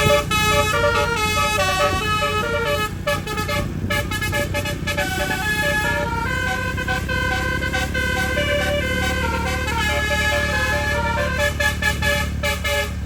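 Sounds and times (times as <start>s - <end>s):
low engine rumble: 0.0s - 13.0s
musical bus horn melody: 0.0s - 13.0s.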